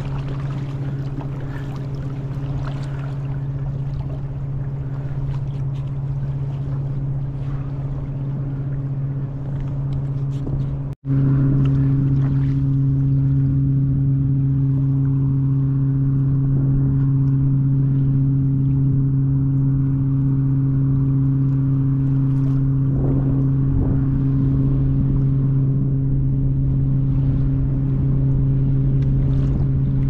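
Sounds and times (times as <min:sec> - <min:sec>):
low engine drone: 0:00.0 - 0:30.0.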